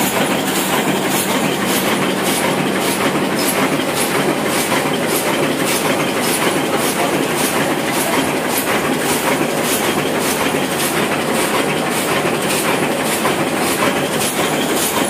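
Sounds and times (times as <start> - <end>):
printing press clattering: 0.0 - 15.0.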